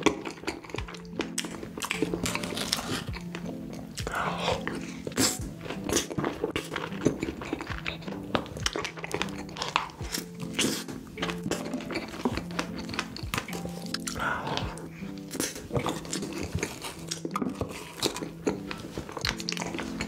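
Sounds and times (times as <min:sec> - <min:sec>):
background music: 0:00.0 - 0:20.0
person chewing food: 0:00.0 - 0:20.0.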